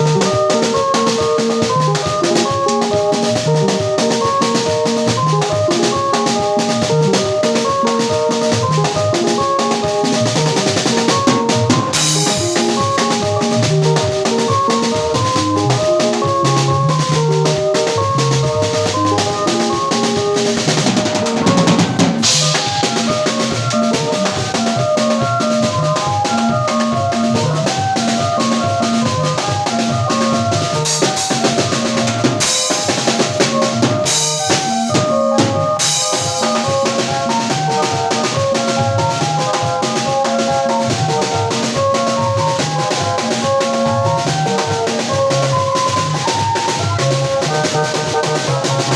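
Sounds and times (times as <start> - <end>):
bass line: 0.0 - 48.9
drum kit beat: 0.0 - 48.9
held melodic notes: 0.0 - 48.9
live band playing: 0.0 - 48.9.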